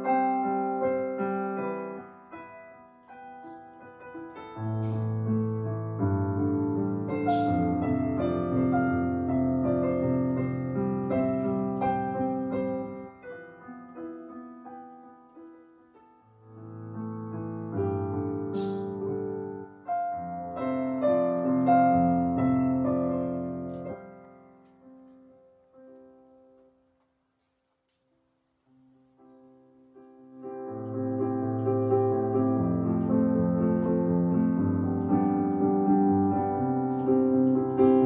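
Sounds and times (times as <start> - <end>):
slow piano chords: 0.0 - 38.0.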